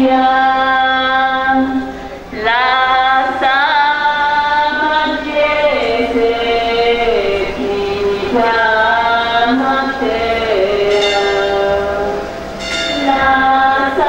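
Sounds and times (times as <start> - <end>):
voices singing a religious chant: 0.0 - 14.0.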